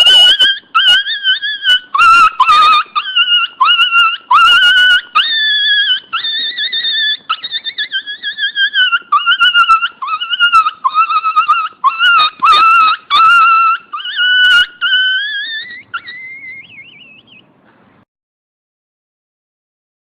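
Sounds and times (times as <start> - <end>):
dog whining: 0.0 - 17.5.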